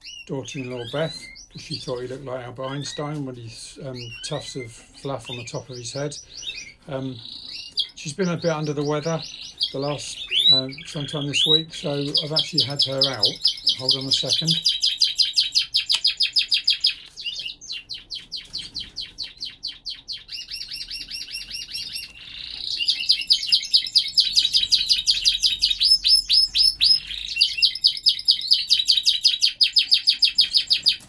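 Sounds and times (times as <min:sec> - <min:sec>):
canary singing trills: 0:00.0 - 0:31.0.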